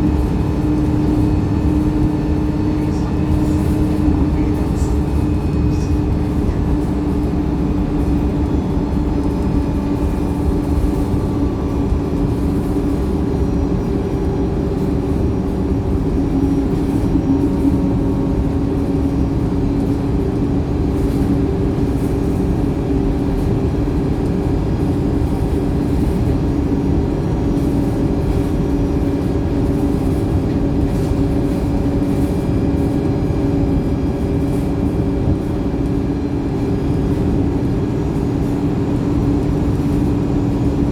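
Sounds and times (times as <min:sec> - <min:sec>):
bus engine drone from inside: 0:00.0 - 0:40.9.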